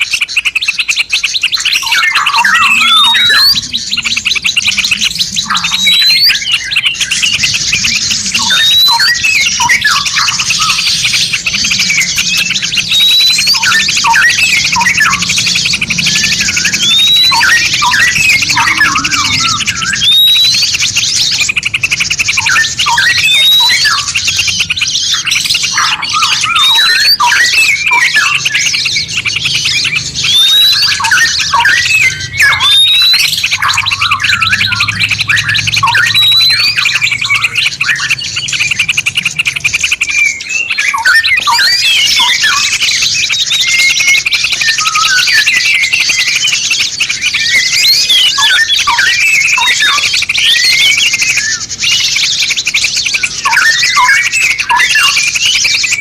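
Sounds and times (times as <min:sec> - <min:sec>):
rising bird whistle: 0:00.0 - 0:56.0
songbirds trilling and chattering: 0:00.0 - 0:56.0.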